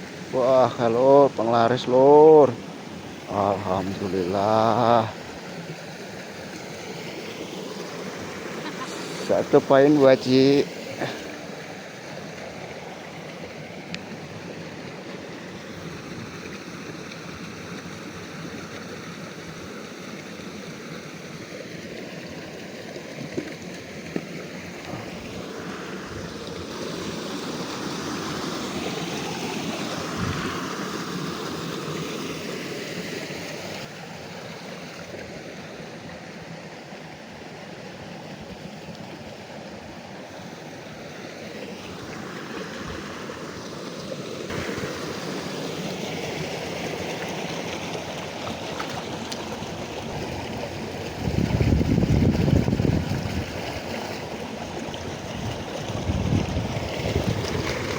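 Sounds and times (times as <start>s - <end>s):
river water running: 0.0s - 57.9s.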